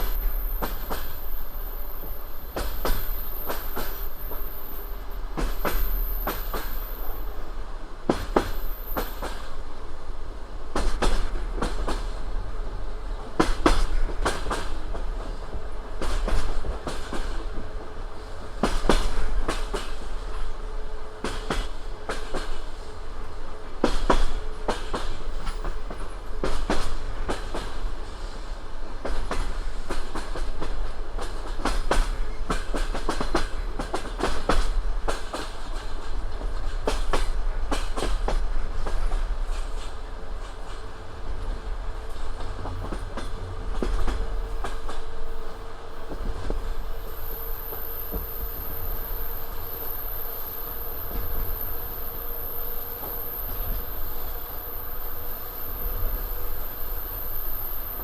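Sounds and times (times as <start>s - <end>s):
train wheels clicking over rail joints: 0.0s - 9.7s, 10.7s - 22.9s, 23.7s - 58.0s
train low rumble: 0.0s - 58.0s.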